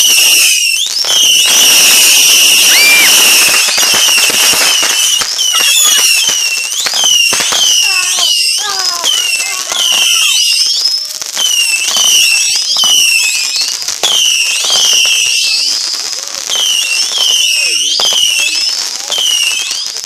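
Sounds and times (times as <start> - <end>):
fireworks crackling: 0.0 - 20.0
whistling fireworks: 0.0 - 20.0.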